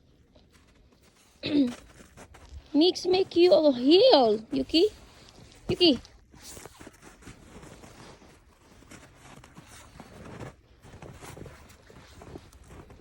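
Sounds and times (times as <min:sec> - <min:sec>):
footsteps crunching in snow: 0:00.1 - 0:13.0.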